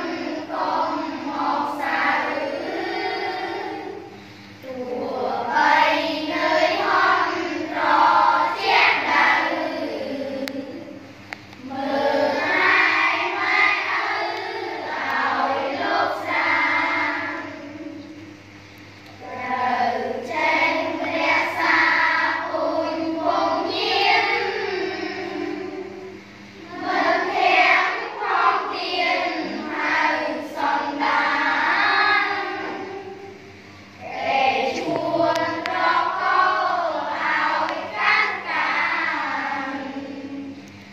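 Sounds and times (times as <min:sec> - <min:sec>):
children chanting in unison: 0:00.0 - 0:11.0, 0:11.6 - 0:18.2, 0:19.2 - 0:33.4, 0:34.0 - 0:40.6.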